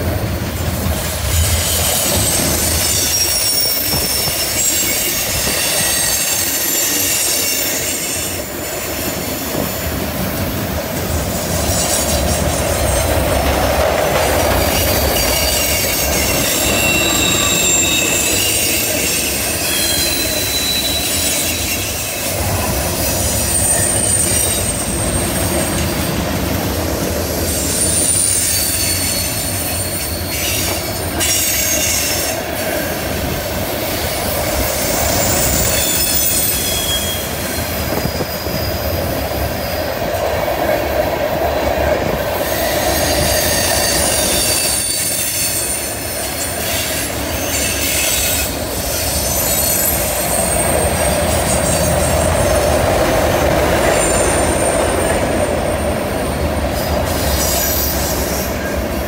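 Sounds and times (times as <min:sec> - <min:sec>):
train wheels rumbling on track: 0:00.0 - 0:59.0
train wheels squealing on rail: 0:00.0 - 0:59.0.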